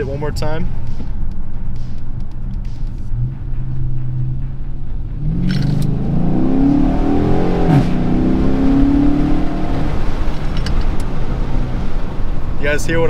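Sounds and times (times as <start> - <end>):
car engine revving at full throttle: 0.9 - 13.0.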